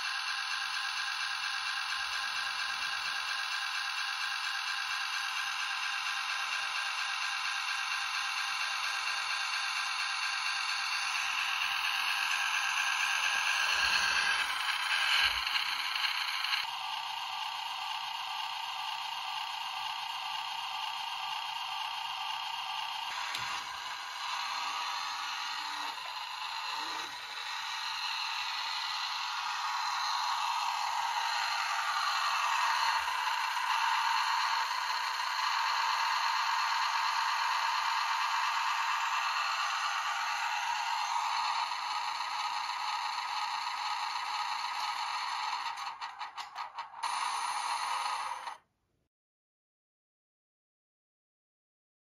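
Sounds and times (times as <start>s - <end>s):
toy truck engine sound from speaker: 0.0s - 48.7s.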